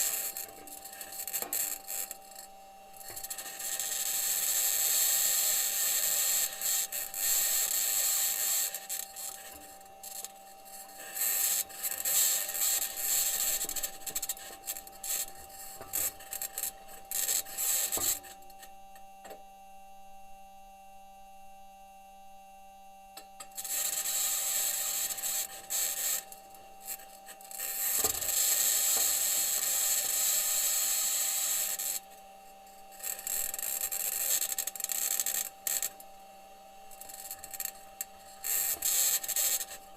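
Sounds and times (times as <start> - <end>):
steady electronic hum: 0.0 - 39.9.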